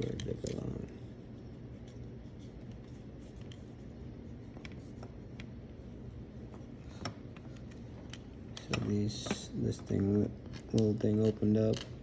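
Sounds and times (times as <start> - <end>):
low steady background hum: 0.0 - 12.0.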